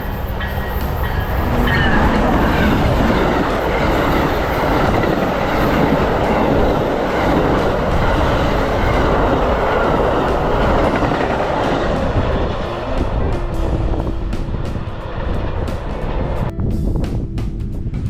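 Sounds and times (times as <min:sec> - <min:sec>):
train wheels running on rails: 0:00.0 - 0:18.0.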